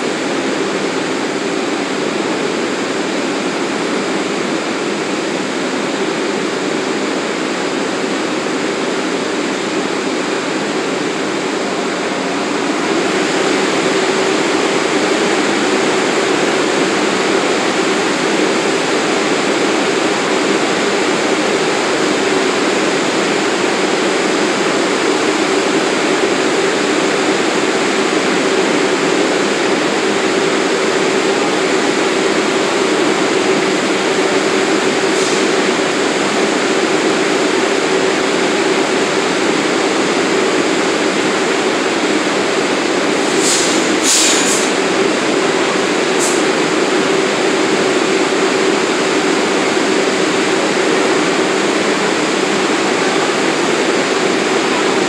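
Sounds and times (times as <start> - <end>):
subway train hiss and hum: 0.0 - 55.0.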